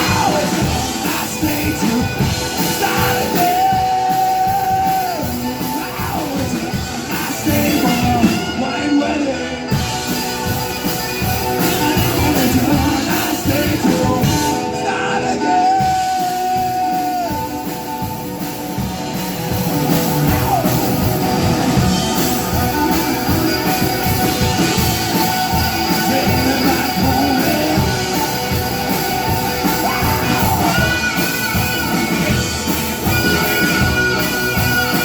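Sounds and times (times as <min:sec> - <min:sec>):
person singing: 0:00.0 - 0:10.4, 0:11.4 - 0:18.0, 0:20.2 - 0:35.0
rock band playing live: 0:00.0 - 0:35.0.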